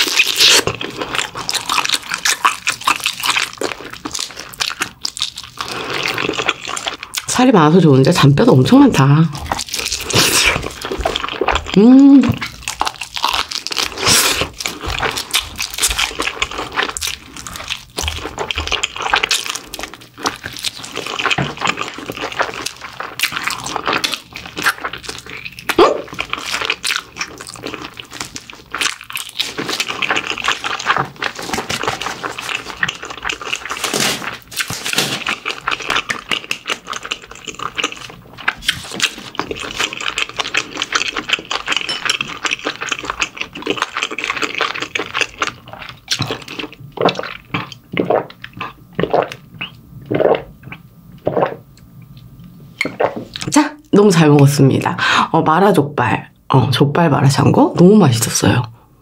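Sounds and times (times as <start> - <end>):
person chewing bony food: 0.0 - 7.8, 8.7 - 53.5.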